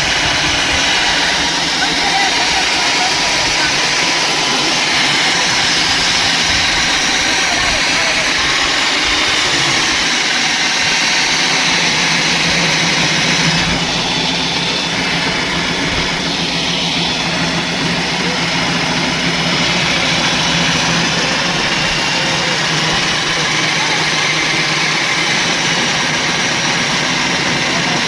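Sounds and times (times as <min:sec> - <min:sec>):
concrete cutting machine whine: 0:00.0 - 0:28.0
grinding hiss: 0:00.0 - 0:28.0.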